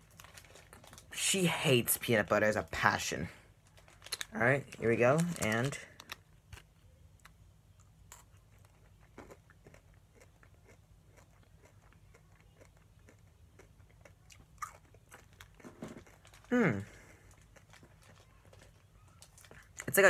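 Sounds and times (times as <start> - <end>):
faint chewing candy crunches: 0.0 - 1.2, 3.5 - 20.0.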